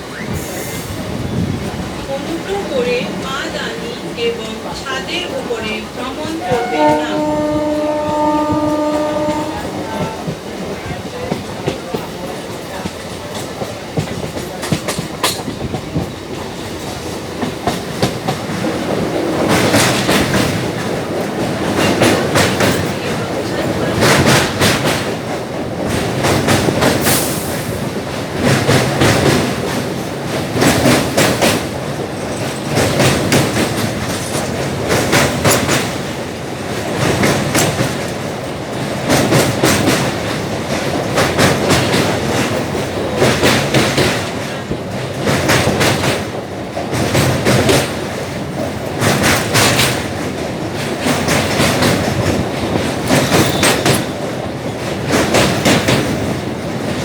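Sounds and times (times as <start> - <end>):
train rumble: 0.0 - 57.0
clickety-clack wheel clatter: 6.2 - 57.0.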